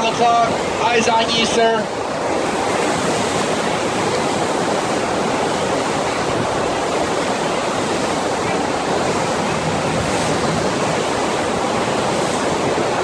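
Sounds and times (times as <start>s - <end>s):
rushing sheet of water: 0.0s - 13.0s.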